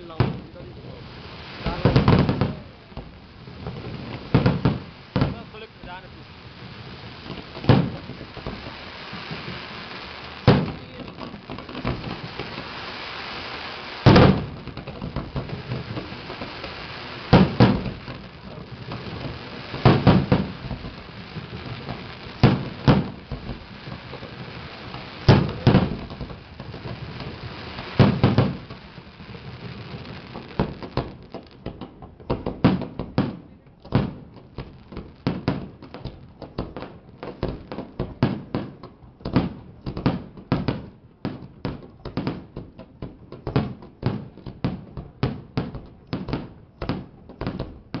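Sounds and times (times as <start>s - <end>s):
fireworks bursting with booms: 0.0s - 48.0s.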